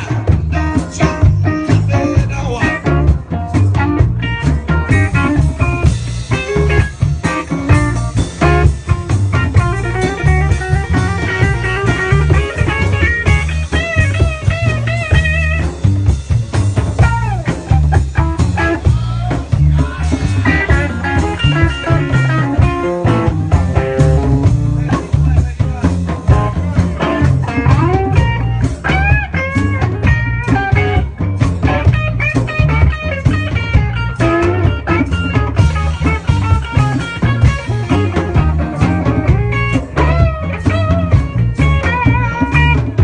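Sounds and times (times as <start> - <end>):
blues band playing: 0.0 - 43.0
guitar lead with bent notes: 0.0 - 43.0.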